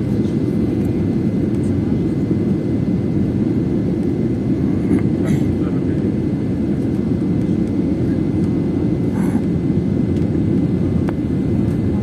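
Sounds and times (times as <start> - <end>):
airliner engines and airflow roar: 0.0 - 12.0.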